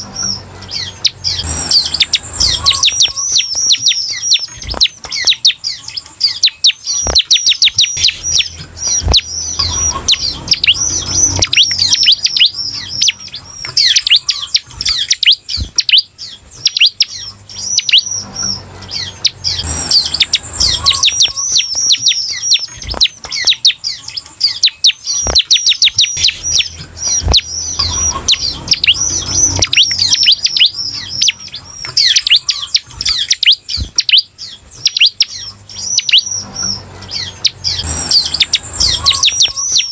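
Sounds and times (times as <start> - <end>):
bird singing high fast notes: 0.0 - 39.9.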